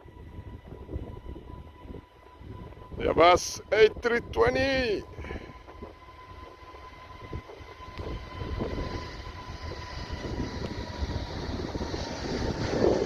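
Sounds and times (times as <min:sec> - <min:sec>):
jet engines roaring at takeoff: 0:00.0 - 0:13.0.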